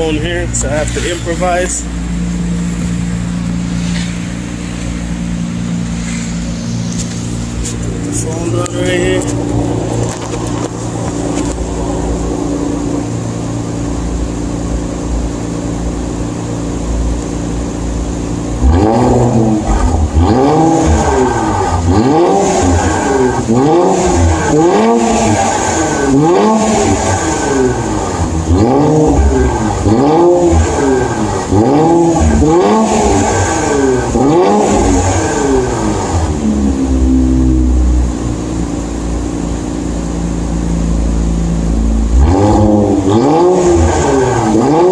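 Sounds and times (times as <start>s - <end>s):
car engine revving: 0.0s - 44.9s
car exhaust idling rumble: 0.0s - 44.9s.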